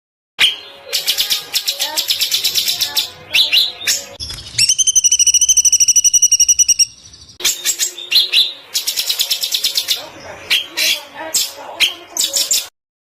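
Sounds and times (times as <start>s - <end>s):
songbird chirping and trilling: 0.4s - 12.7s.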